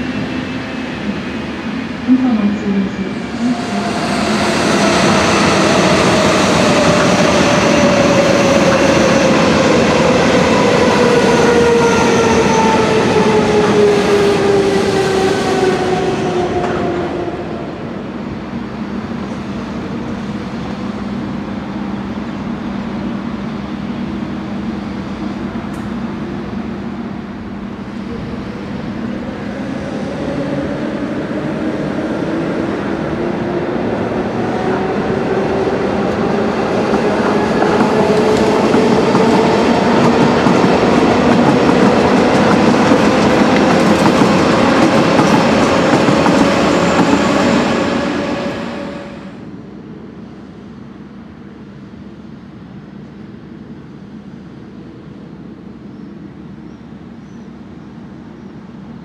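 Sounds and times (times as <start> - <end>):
electric train whining: 0.0 - 49.6
rail rumble: 0.0 - 55.7
approaching train whine: 0.0 - 59.0.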